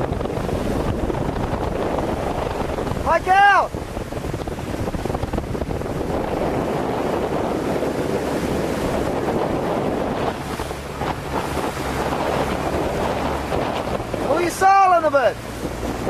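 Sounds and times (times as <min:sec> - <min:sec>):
water rushing and splashing: 0:00.0 - 0:16.0
wind buffeting microphone: 0:00.0 - 0:16.0.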